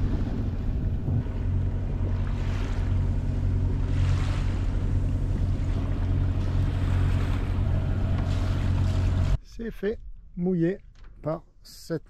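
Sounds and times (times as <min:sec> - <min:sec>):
boat engine humming: 0:00.0 - 0:10.3
water noise: 0:00.0 - 0:11.1
wind: 0:00.0 - 0:12.0.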